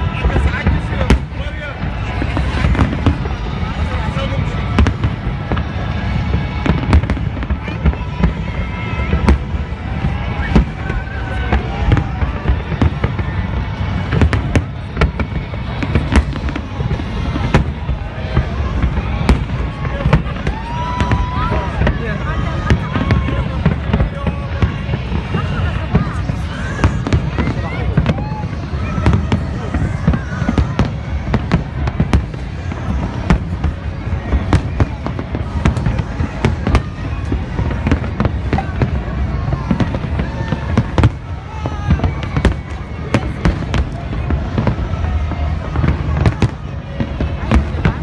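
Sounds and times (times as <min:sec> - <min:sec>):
fireworks bursting: 0:00.0 - 0:48.0
low rumble of explosions: 0:00.0 - 0:48.0.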